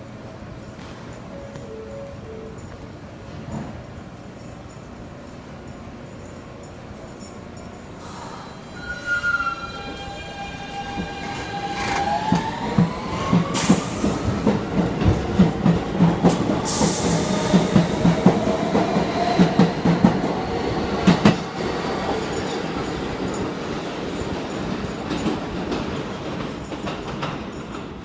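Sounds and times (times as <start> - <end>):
subway motors whining: 0.0 - 28.0.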